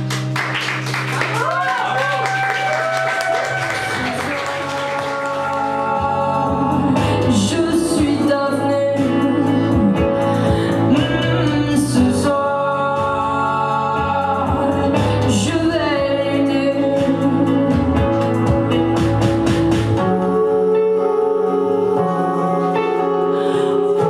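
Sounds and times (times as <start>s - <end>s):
keyboard: 0.0s - 24.0s
woman singing lead: 1.4s - 24.0s.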